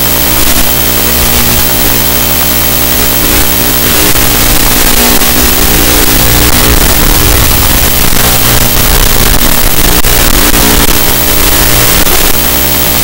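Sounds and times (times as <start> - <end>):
heavy hiss: 0.0 - 13.0
quadcopter motors buzzing: 0.0 - 13.0.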